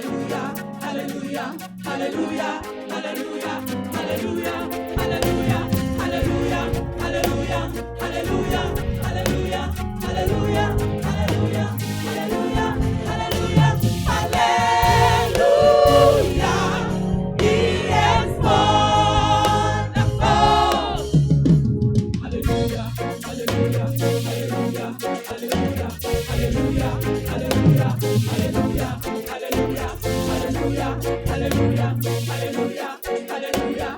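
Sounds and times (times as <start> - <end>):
gospel choir singing: 0.0 - 21.4, 22.2 - 33.9
musical accompaniment: 0.0 - 33.9.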